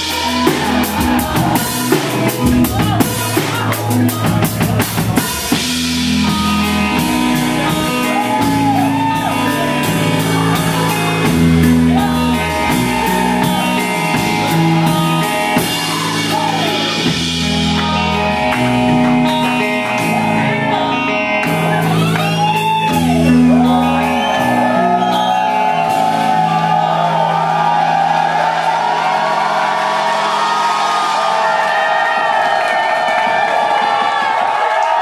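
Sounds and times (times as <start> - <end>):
audience whooping and shouting: 0.0 - 4.1, 6.2 - 35.0
looped electric guitar: 0.0 - 31.2
bass line: 0.0 - 32.4
drums: 0.0 - 35.0.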